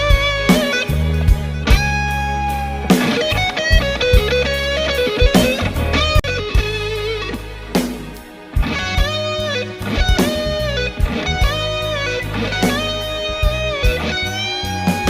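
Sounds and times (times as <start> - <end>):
bass and drums: 0.0 - 15.0
bluesy electric guitar lead: 0.0 - 15.0.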